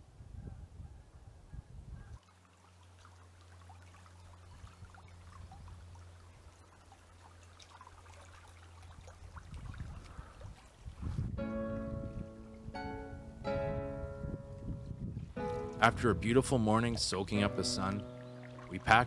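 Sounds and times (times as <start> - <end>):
water trickling: 2.2 - 19.0.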